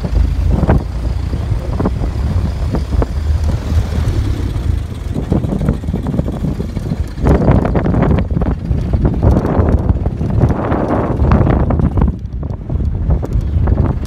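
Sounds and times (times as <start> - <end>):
car engine running: 0.0 - 14.0
road noise: 0.0 - 14.0
wind buffeting microphone: 0.0 - 14.0.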